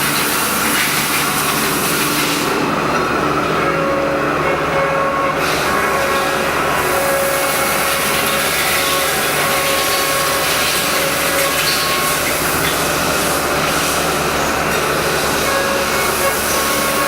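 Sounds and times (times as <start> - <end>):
machine whining: 0.0 - 17.0
milling machine running: 0.0 - 17.0.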